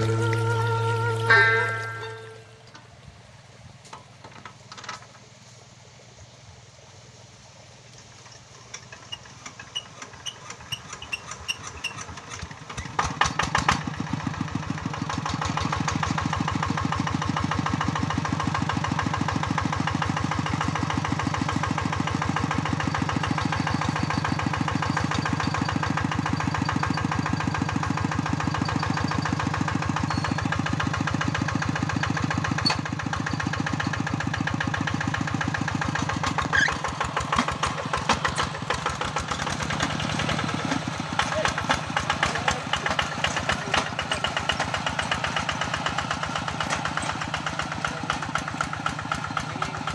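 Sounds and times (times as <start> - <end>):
diesel engine chugging: 0.0 - 4.6, 5.2 - 49.9.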